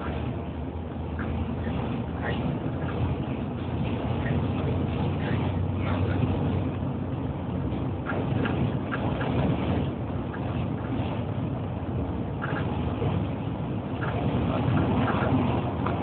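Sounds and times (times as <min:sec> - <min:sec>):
bus engine and tyre rumble: 0:00.0 - 0:16.0.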